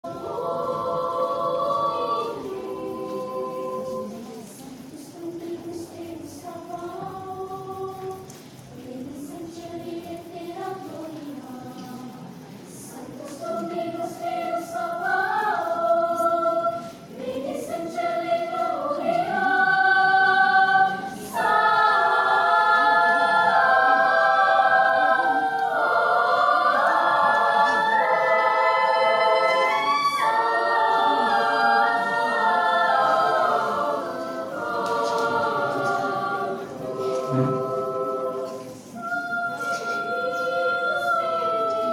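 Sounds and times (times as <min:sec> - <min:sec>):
choir singing in harmony: 0:00.0 - 0:41.9.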